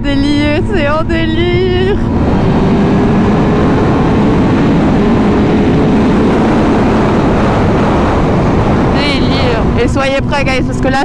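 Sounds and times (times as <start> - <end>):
motorcycle engine running: 0.0 - 11.0
riding wind noise: 0.0 - 11.0.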